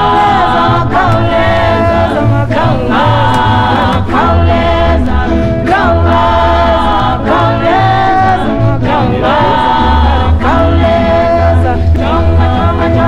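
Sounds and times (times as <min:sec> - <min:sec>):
choir singing: 0:00.0 - 0:13.0
low bass line: 0:00.0 - 0:13.0.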